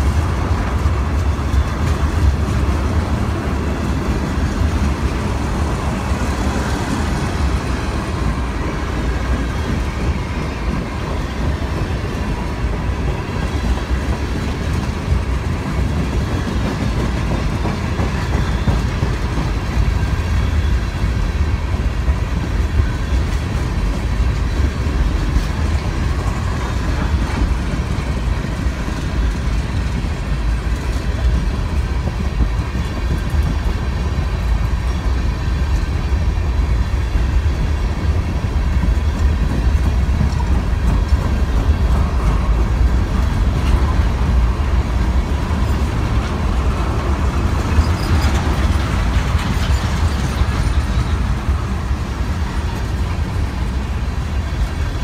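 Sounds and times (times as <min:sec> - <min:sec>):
steel train wheels on rails: 0:00.0 - 0:55.0.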